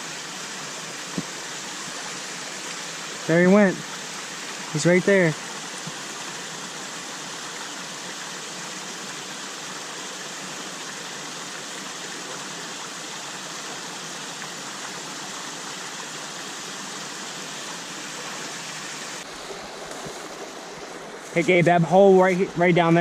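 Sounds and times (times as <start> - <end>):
mountain stream running: 0.0 - 23.0.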